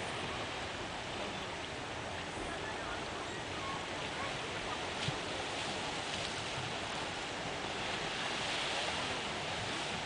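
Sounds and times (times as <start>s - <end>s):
small waves along shore: 0.0s - 10.0s.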